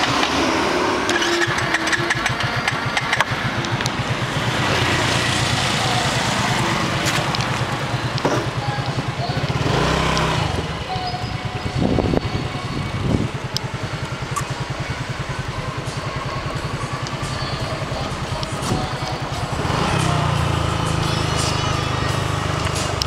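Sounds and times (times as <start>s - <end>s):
motorbike engine running: 0.0s - 23.0s.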